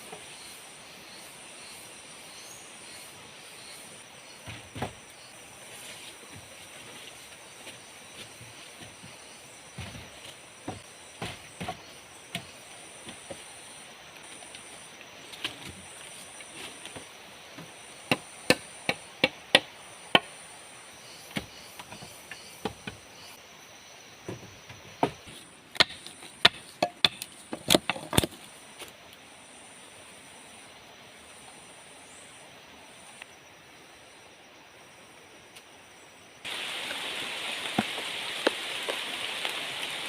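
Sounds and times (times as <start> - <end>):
forest insects droning: 0.0 - 40.0.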